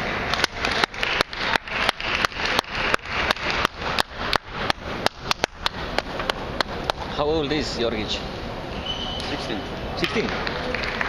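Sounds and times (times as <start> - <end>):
hall background noise: 0.0 - 11.0.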